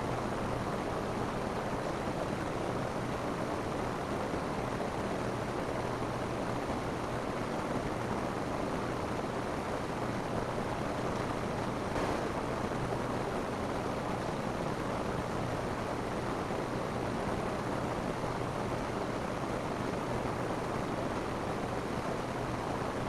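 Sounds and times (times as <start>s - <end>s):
rain on a roof: 0.0s - 23.0s.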